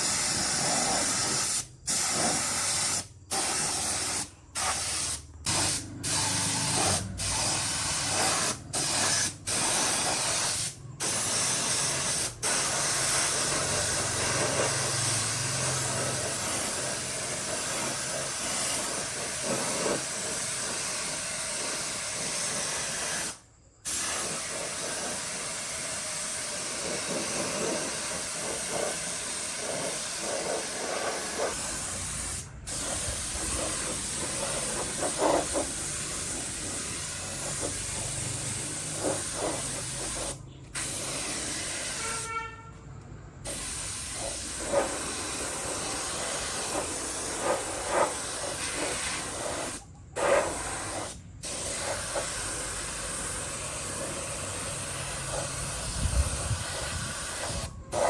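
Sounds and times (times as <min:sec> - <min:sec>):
spray hissing: 0:00.0 - 0:42.5, 0:43.4 - 0:58.0.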